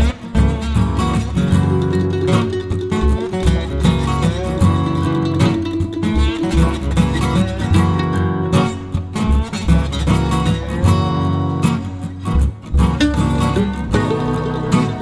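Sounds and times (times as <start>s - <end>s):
acoustic guitar plucked and strummed: 0.0s - 15.0s
steady bass: 0.0s - 15.0s.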